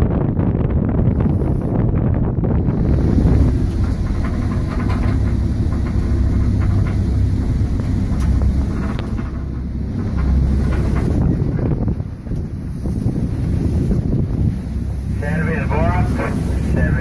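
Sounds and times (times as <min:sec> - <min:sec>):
storm wind buffeting a boat: 0:00.0 - 0:17.0.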